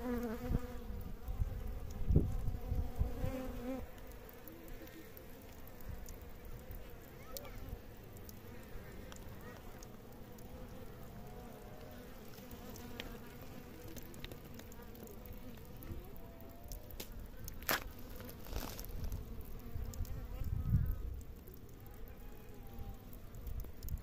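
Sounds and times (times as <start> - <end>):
insect buzzing: 0.0 - 21.7.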